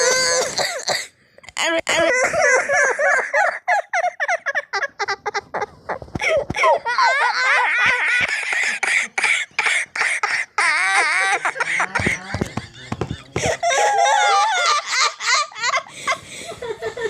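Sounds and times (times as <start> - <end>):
boy laughing: 1.9 - 17.0.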